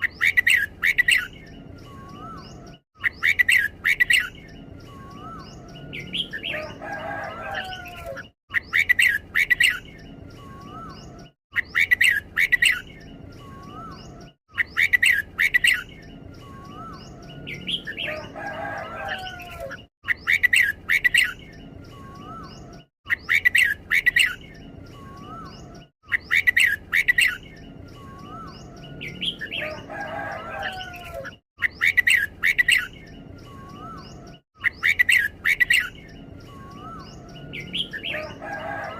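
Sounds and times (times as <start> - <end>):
bulbul singing bright phrases: 0.0 - 38.9
lower warbling bird phrase: 0.0 - 38.9.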